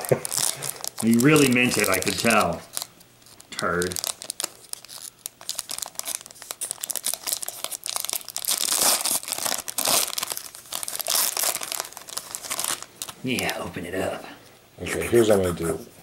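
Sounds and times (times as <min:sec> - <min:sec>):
foil wrapper crinkling and tearing: 0:00.0 - 0:13.5.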